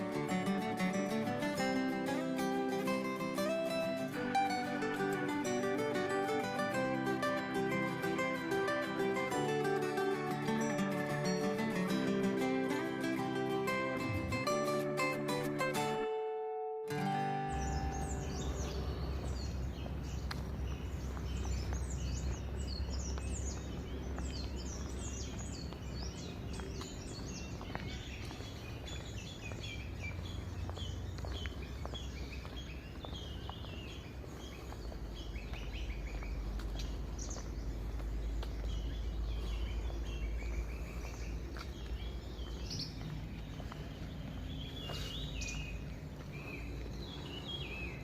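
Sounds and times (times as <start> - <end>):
small birds chirping: 0.0 - 16.0, 16.9 - 48.0.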